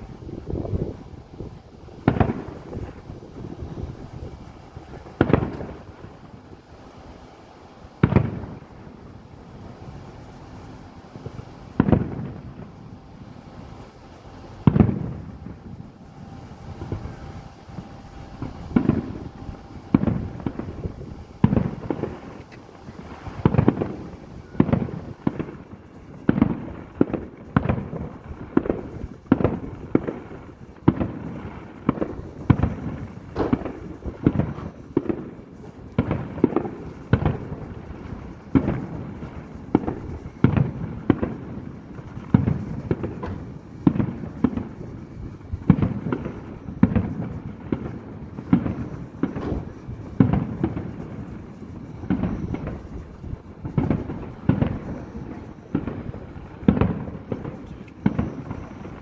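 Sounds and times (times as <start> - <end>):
fireworks booming: 0.0 - 59.0.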